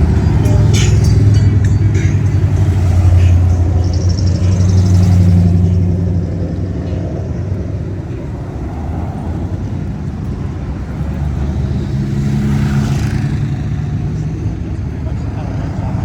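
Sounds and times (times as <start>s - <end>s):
car engines passing: 0.0s - 16.0s.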